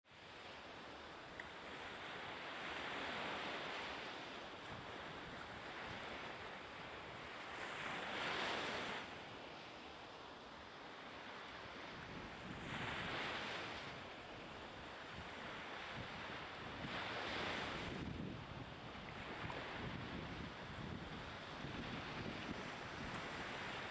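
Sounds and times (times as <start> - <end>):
wind: 0.0 - 23.9.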